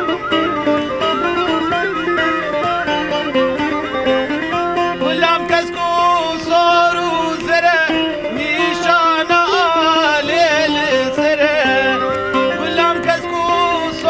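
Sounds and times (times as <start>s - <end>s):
long-necked lute: 0.0s - 14.0s
wooden wind instrument melody: 0.0s - 14.0s.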